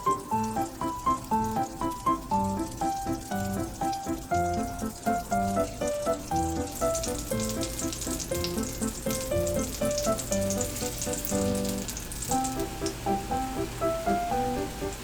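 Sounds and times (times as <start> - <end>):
background piano music: 0.0 - 15.0
toast sizzling in a pan: 0.0 - 15.0.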